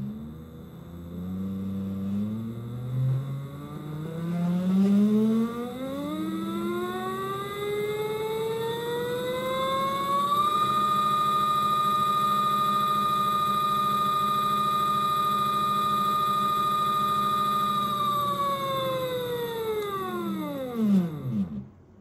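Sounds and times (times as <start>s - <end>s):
washer motor whine: 0.0s - 22.0s.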